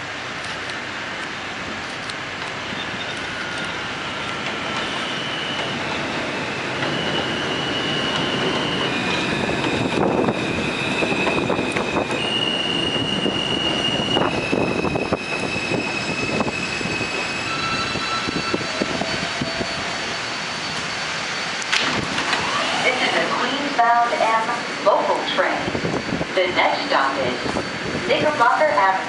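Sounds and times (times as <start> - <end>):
train brakes squealing: 2.6 - 29.0.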